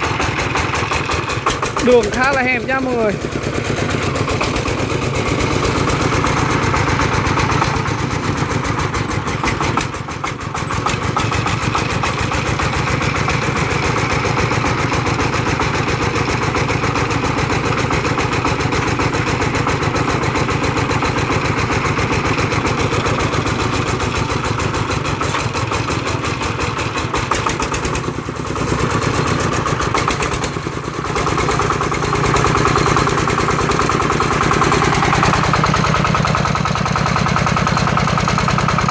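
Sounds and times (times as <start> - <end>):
diesel truck engine chugging: 0.0 - 38.9.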